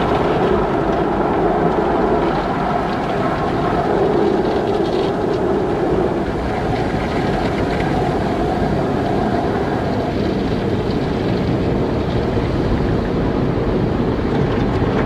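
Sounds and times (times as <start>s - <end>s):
car wash machinery running: 0.0s - 15.0s.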